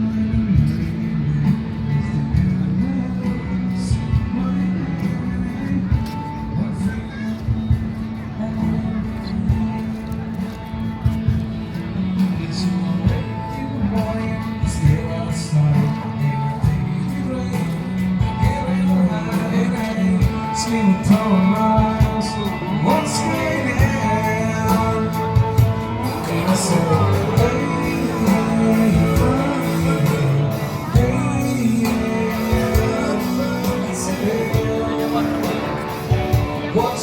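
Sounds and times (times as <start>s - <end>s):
song with singing voice: 0.0s - 37.0s.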